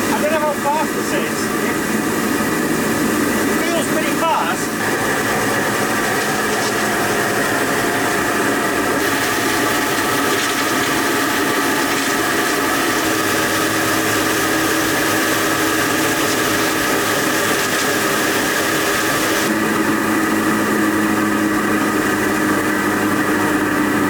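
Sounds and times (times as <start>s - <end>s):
water spraying: 0.0s - 24.0s
water turbine whirring: 0.0s - 24.0s.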